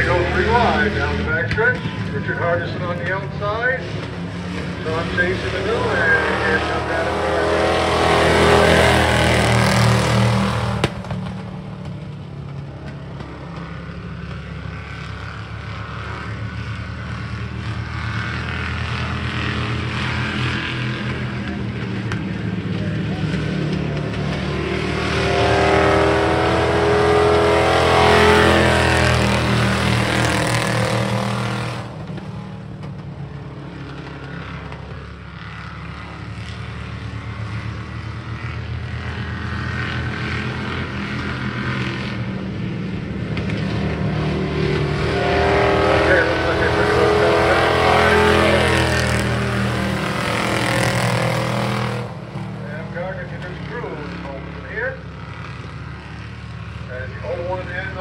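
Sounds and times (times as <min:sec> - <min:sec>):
race truck engines running hard: 0:00.0 - 0:58.0.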